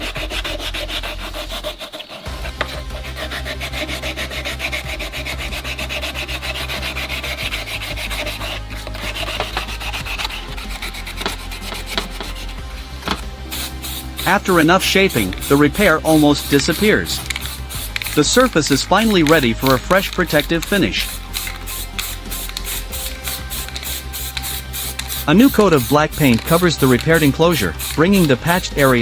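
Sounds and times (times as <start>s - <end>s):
sanding plastic: 0.0s - 29.0s.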